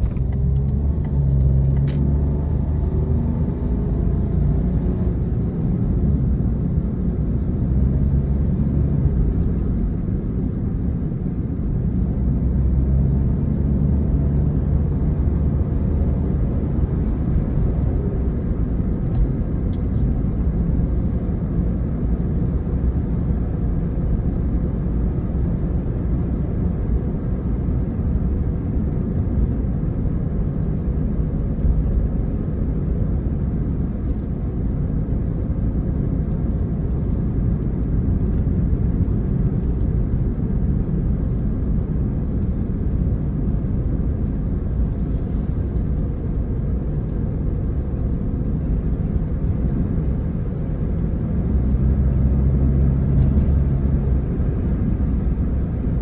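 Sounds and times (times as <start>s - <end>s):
car engine droning in cabin: 0.0s - 56.0s
road noise: 0.0s - 56.0s.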